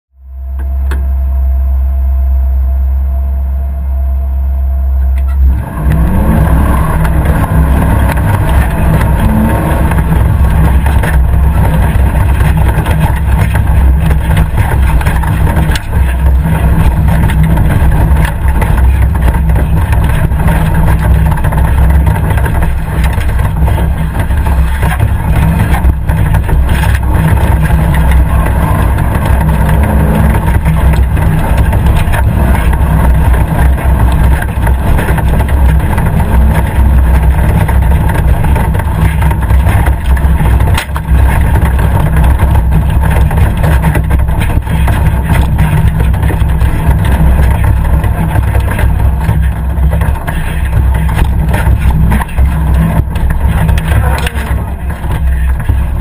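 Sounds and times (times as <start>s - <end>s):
off-road vehicle engine under load: 0.1s - 56.0s
knocks and rattles: 5.2s - 56.0s.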